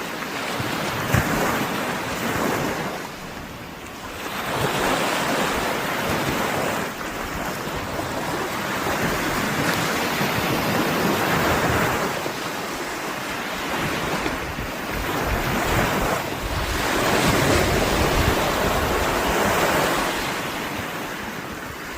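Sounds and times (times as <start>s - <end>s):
surf breaking on shore: 0.0s - 21.9s
wind buffeting microphone: 0.5s - 21.9s.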